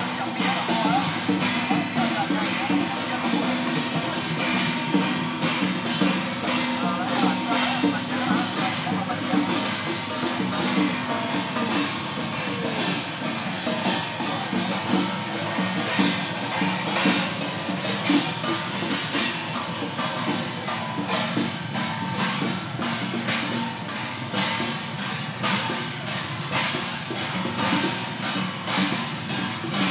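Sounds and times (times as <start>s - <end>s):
drums beating: 0.0s - 29.9s
gongs ringing: 0.0s - 29.9s
street crowd noise: 0.0s - 29.9s.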